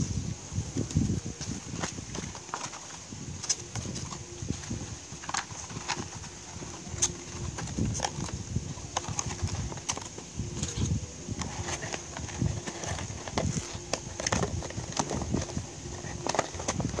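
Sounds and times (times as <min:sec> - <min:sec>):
hands handling paper card: 0:00.8 - 0:17.0.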